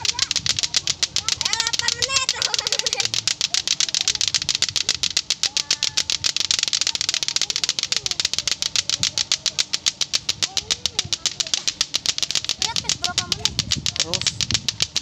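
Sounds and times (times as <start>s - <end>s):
plastic clacker balls clacking: 0.0s - 15.0s.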